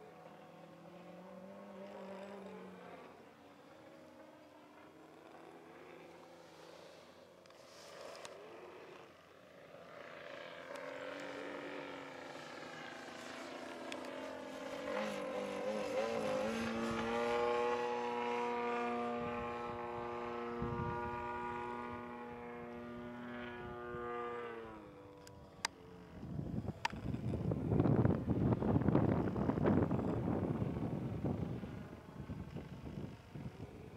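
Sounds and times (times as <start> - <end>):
model plane engine buzzing: 0.0 - 33.9.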